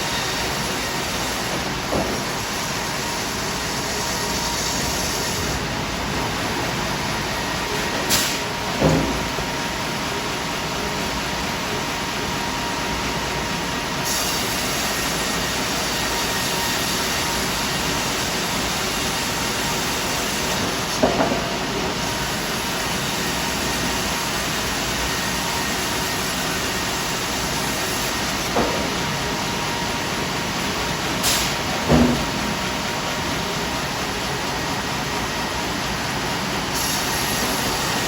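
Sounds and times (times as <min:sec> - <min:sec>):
band sawmill running: 0:00.0 - 0:38.0.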